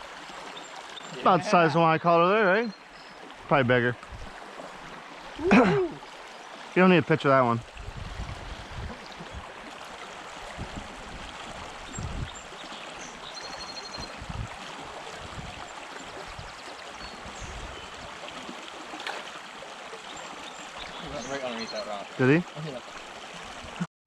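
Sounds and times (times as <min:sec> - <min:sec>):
creek water running over rocks: 0:00.0 - 0:23.9.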